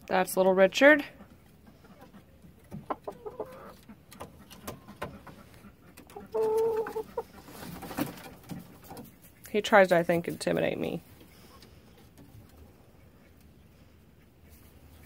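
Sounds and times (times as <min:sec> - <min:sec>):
chickens clucking: 0:00.4 - 0:15.0.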